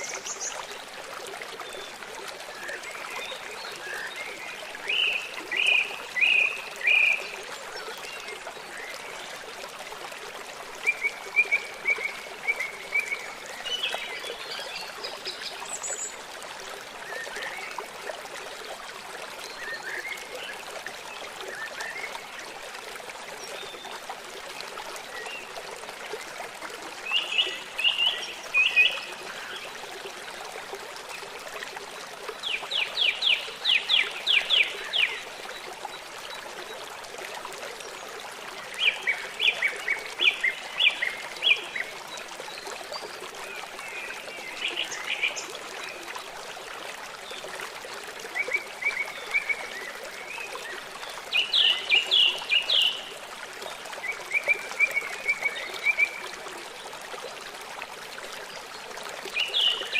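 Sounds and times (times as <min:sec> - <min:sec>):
trickling stream: 0:00.0 - 0:59.9.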